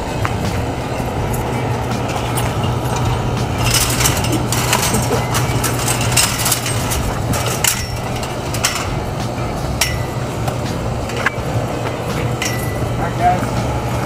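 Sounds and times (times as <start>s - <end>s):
footsteps: 0.0s - 14.0s
steady low hum: 0.0s - 14.0s.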